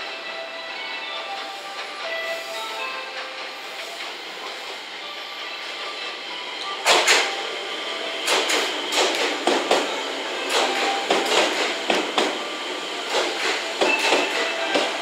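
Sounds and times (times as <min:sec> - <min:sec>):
train rolling rumble: 0:00.0 - 0:15.0
train wheels clacking: 0:01.1 - 0:15.0.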